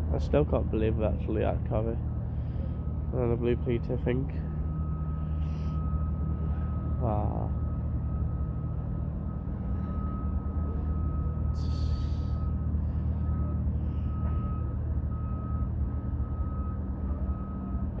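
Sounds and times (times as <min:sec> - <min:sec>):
low engine hum: 0:00.0 - 0:18.0
high-pitched reversing beep: 0:03.3 - 0:18.0.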